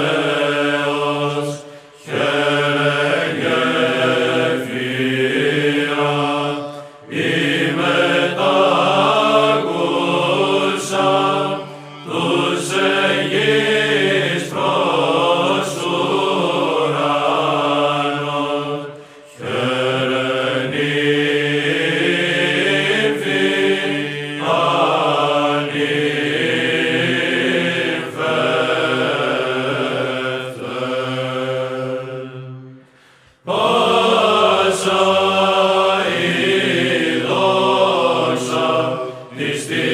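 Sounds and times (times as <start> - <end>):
sung chant melody: 0.0 - 39.9.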